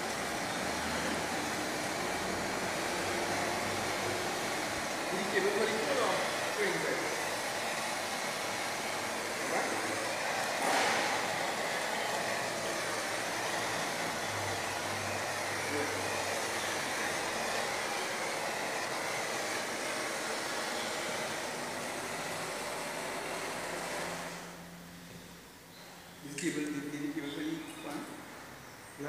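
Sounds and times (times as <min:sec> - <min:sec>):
propane torch hissing: 0:00.0 - 0:24.6.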